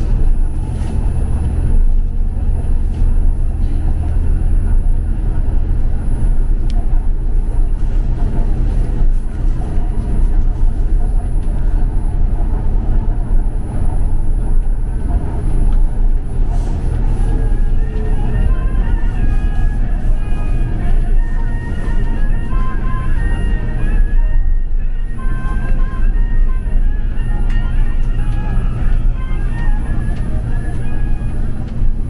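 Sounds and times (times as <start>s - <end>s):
train rumble inside carriage: 0.0s - 32.0s.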